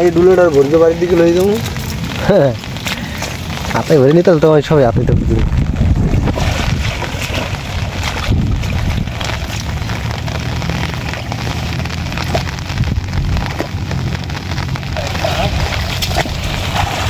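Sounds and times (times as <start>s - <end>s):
rain falling on water and vegetation: 0.0s - 17.0s
wind rumble on microphone: 0.0s - 17.0s.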